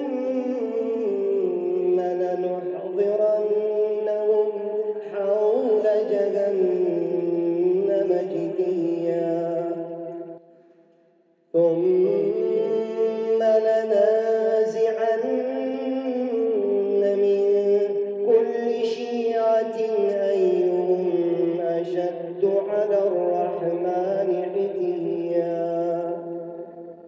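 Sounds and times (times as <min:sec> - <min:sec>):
man chanting melodically: 0:00.0 - 0:10.4, 0:11.6 - 0:27.0.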